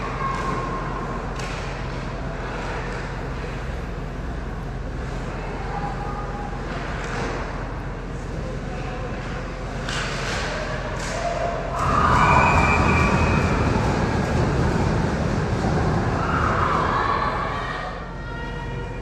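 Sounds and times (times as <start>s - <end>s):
steady rumbling noise: 0.0s - 19.0s.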